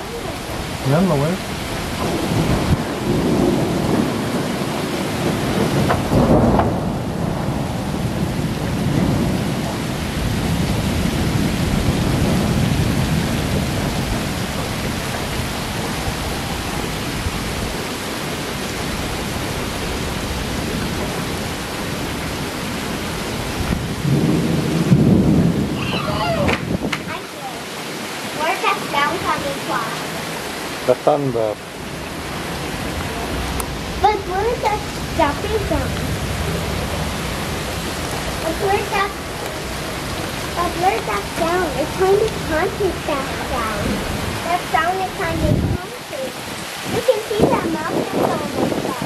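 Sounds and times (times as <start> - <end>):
heavy rain in strong wind: 0.0 - 49.0.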